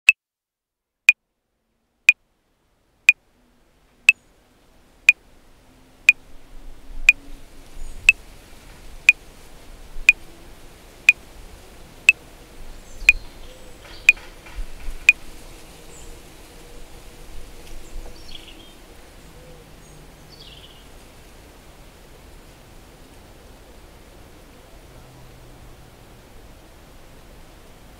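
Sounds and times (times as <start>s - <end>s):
faint background noise: 1.0s - 27.9s.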